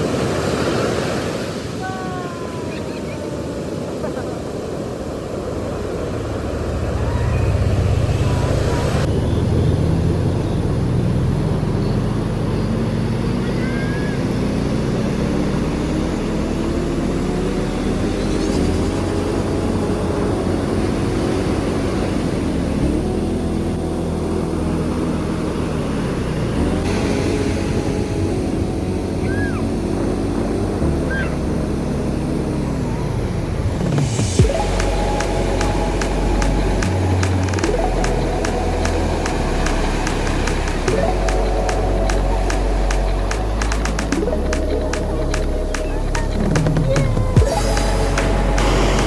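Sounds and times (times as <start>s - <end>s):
vehicle engine shifting gears: 5.5s - 49.0s.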